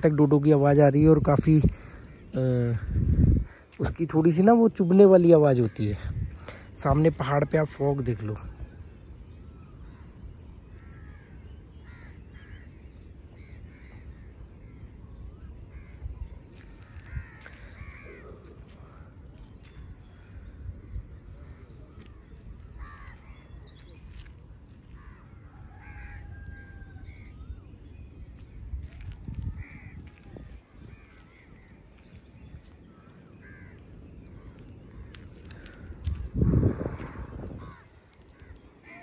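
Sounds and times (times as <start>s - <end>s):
bird calls and chirps: 0.0s - 39.0s.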